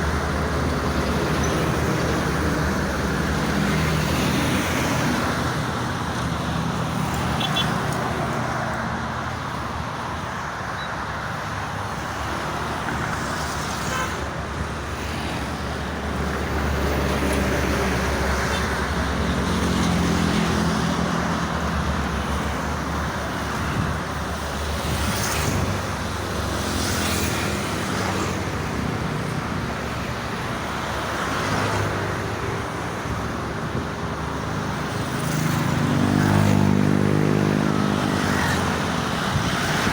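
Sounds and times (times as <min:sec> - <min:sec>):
passing cars and trucks: 0:00.0 - 0:39.9.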